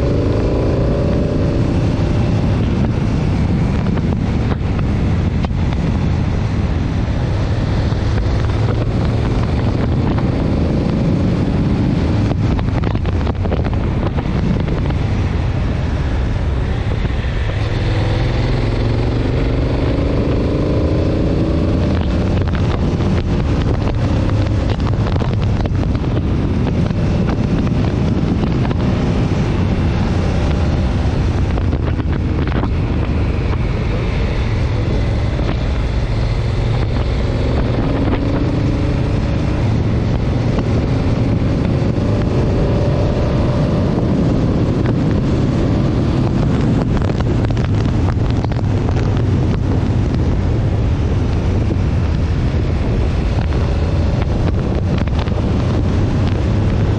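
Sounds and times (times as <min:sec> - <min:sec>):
motorcycle engine revving: 0:00.0 - 0:56.9
wind rush on microphone: 0:00.0 - 0:56.9.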